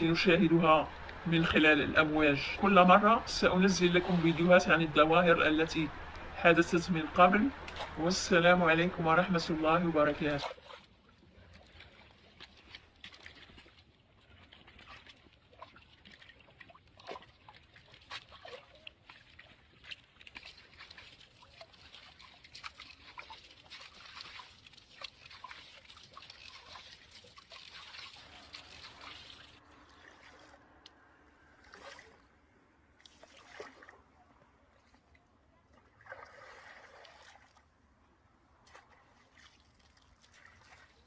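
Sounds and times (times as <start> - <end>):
small water splashes: 0.0 - 41.0
water sloshing and trickling: 0.0 - 41.0.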